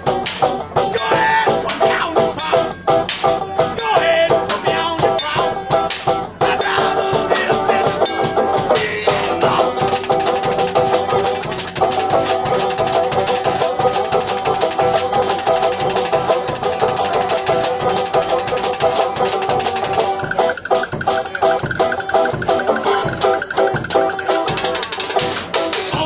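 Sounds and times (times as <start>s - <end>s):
banjo playing: 0.0s - 26.0s
drum kit with bass drum: 0.0s - 26.0s.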